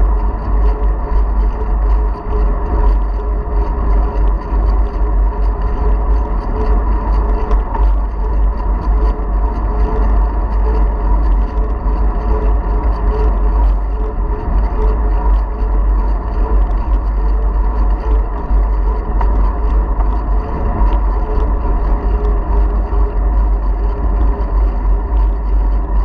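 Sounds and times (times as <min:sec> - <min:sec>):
steady hum: 0:00.0 - 0:26.0
wind buffeting microphone: 0:00.0 - 0:26.0.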